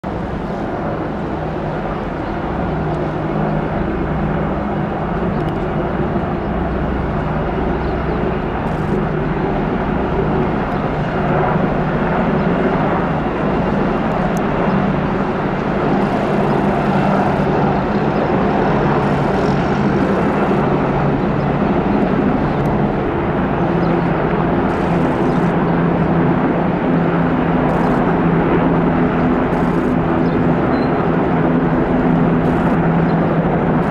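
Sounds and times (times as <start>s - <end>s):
helicopters flying past: 0.1s - 33.9s.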